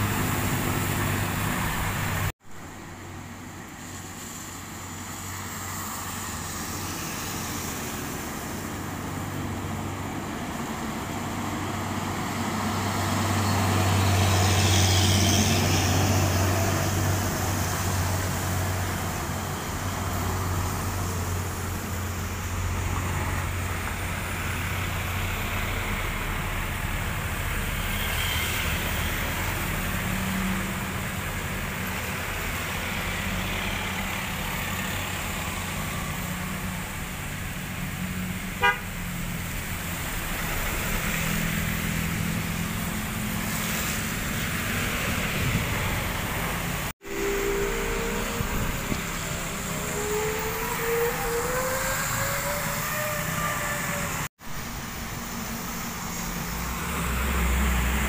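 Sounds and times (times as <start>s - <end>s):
diesel truck engine drone: 0.0s - 58.0s
tyres hissing on wet road: 0.0s - 58.0s.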